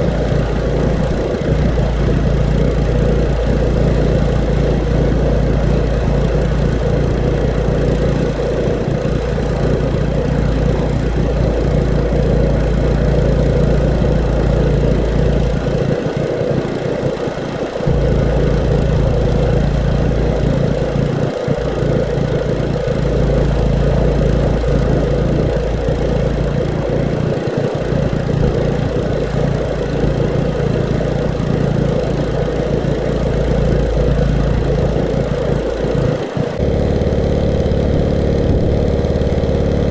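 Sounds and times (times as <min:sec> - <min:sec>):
low rumble: 0:00.0 - 0:39.9
pressure washer engine running: 0:00.0 - 0:39.9.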